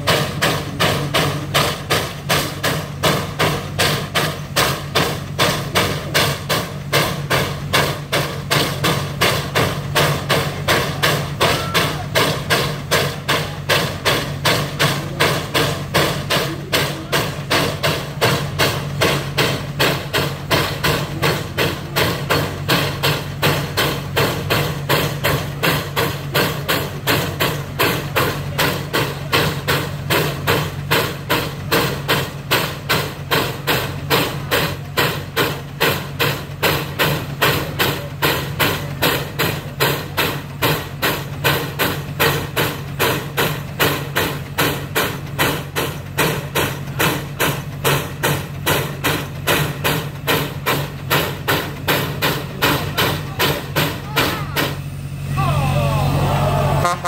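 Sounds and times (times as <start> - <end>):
steam exhaust chuffing: 0.0 - 57.0.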